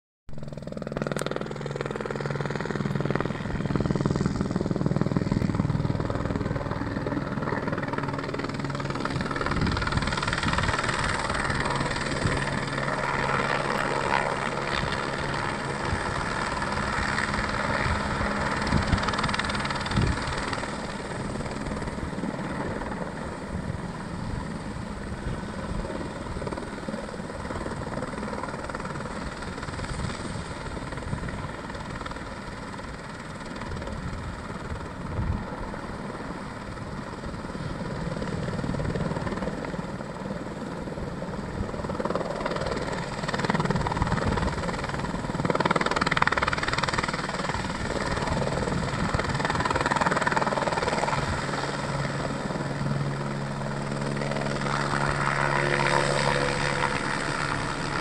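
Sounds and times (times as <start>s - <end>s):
helicopter flying overhead: 0.3s - 58.0s.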